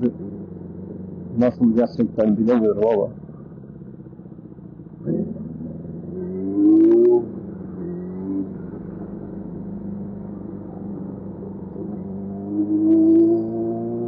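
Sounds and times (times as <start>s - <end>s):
muffled motorcycle engine revving: 0.0s - 14.0s.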